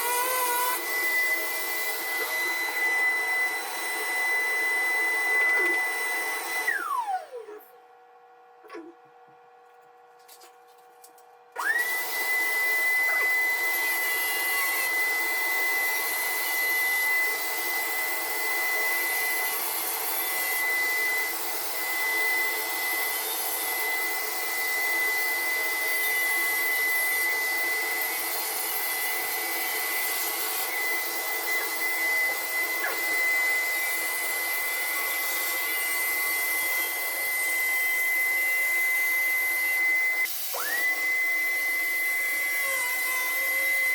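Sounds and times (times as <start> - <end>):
electric motor whining: 0.0 - 7.6, 11.6 - 43.9.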